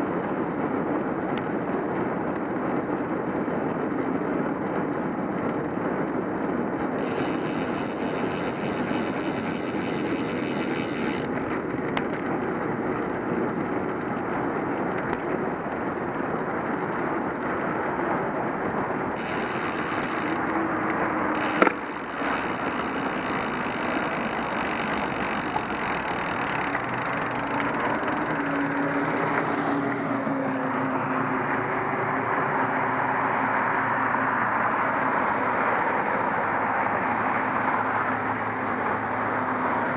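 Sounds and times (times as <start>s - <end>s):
wind noise: 0.0s - 37.4s
bicycle tyres on wet road: 0.0s - 39.9s.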